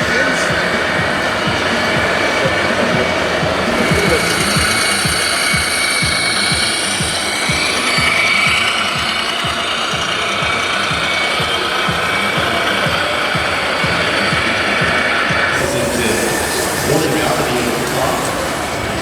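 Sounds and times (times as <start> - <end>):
rapid low knocking: 0.0 - 19.0
steady mechanical whir: 0.0 - 19.0.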